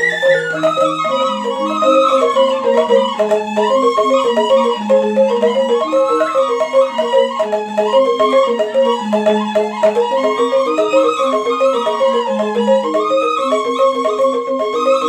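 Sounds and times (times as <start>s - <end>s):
bamboo flute melody: 0.0s - 15.0s
bamboo xylophone rapid pattern: 0.0s - 15.0s.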